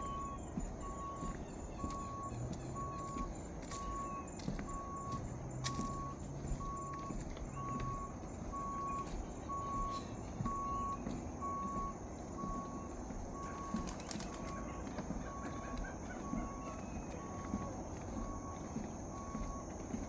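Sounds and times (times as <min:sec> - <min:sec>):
reversing alarm beeping: 0:00.0 - 0:20.0.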